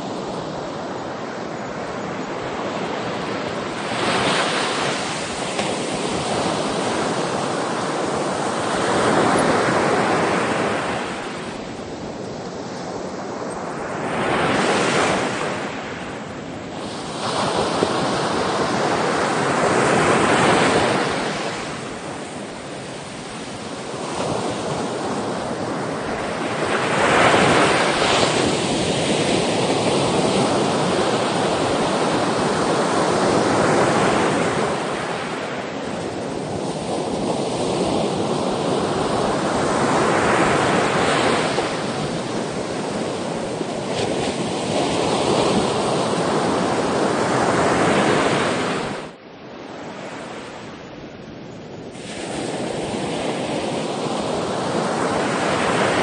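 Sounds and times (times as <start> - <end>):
ocean waves breaking on shore: 0.0 - 56.0
wind noise: 0.0 - 56.0.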